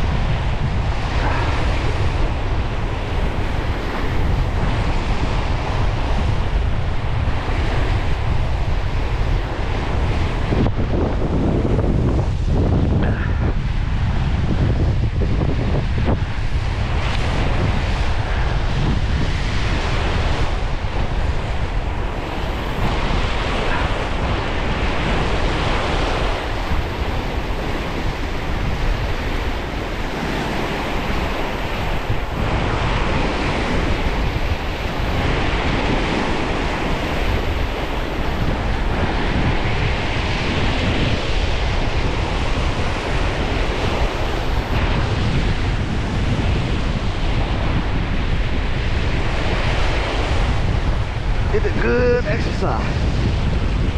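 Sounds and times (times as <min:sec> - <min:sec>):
strong wind on microphone: 0:00.0 - 0:53.9.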